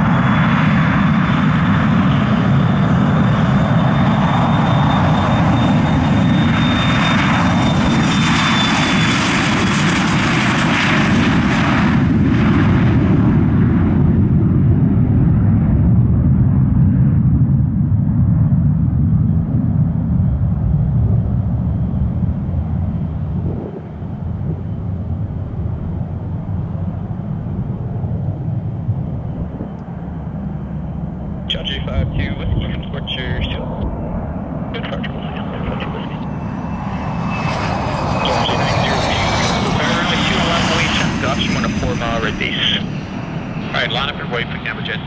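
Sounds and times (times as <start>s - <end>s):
jet engine deep rumble: 0.0s - 45.0s
jet engine high whine: 0.0s - 45.0s.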